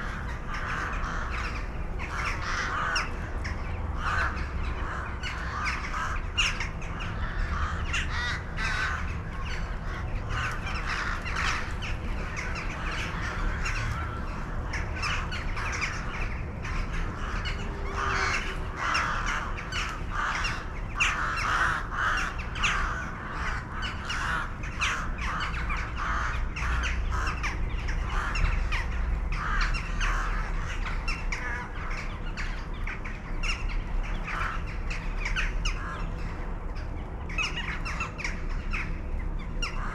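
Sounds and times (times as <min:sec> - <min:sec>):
many birds calling: 0:00.0 - 0:39.9.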